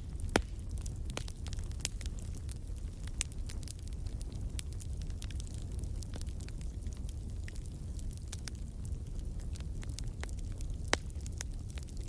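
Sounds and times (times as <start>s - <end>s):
flames low rumble: 0.0s - 12.0s
wood fire crackling: 0.0s - 12.0s.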